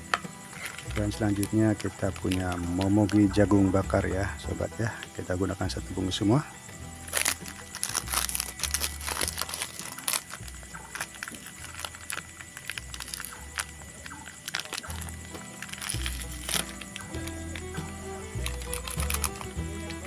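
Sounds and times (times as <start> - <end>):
plastic wrapper crinkling: 0.5 - 3.8, 7.1 - 20.0.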